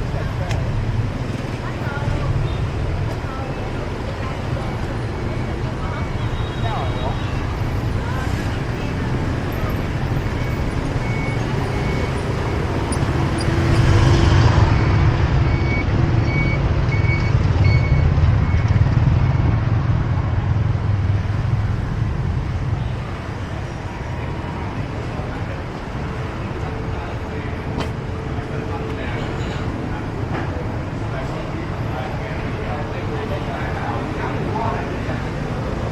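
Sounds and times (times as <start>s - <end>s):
motorbikes and cars passing: 0.0s - 35.9s.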